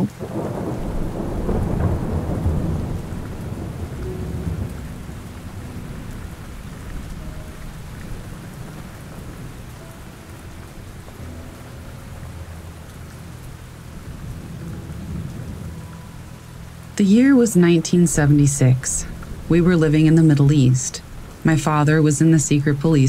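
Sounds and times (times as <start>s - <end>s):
low thunder rumble: 0.0s - 23.0s
steady rain: 0.0s - 23.0s.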